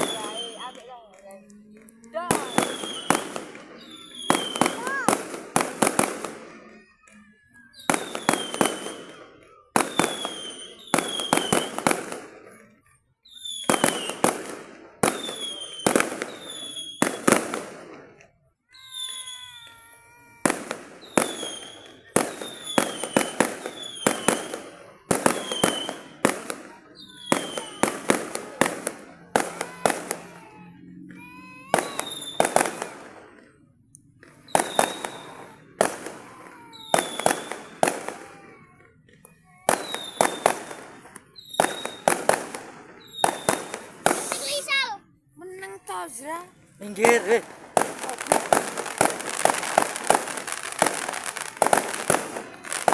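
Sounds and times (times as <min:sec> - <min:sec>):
fireworks bursting with bangs: 0:00.0 - 0:52.9.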